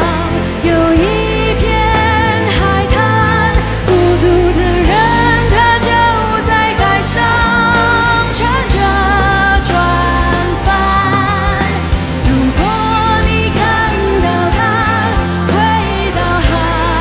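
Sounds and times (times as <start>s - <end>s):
pop song: 0.0s - 17.0s.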